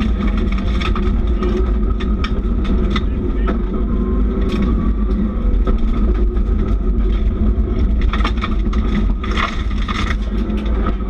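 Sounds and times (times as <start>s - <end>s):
car engine running: 0.0s - 11.0s
gravel rattling against car: 0.0s - 11.0s.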